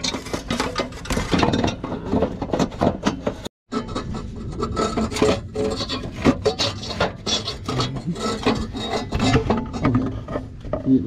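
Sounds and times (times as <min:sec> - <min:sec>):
irregular scraping and rubbing: 0:00.0 - 0:11.0.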